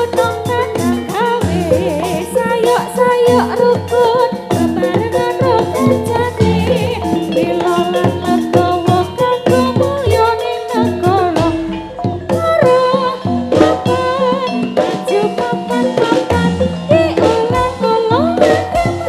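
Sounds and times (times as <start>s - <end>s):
drum beat: 0.0s - 19.0s
person singing: 0.0s - 19.0s
pitched percussion: 0.0s - 19.0s.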